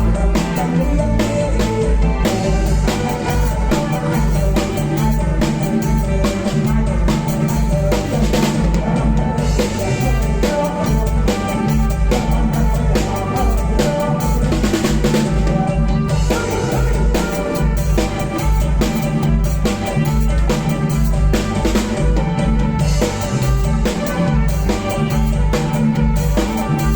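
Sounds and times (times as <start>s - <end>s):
drum kit beat with rimshots: 0.0s - 26.9s
live band instrumental music: 0.0s - 26.9s.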